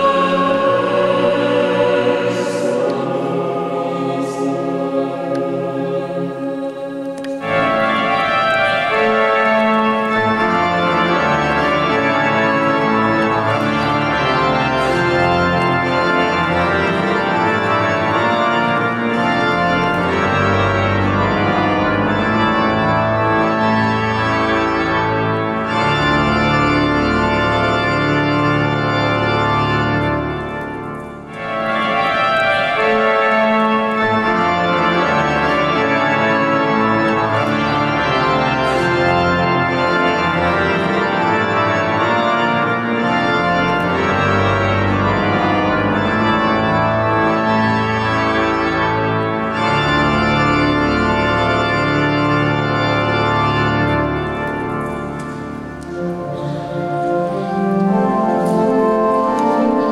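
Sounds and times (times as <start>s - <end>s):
church pipe organ chords: 0.0s - 59.9s.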